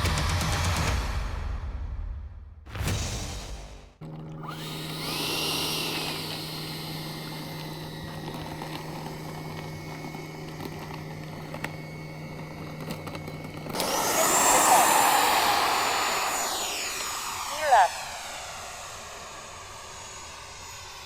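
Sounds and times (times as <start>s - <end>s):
model airplane electric motor whining: 4.0s - 21.0s.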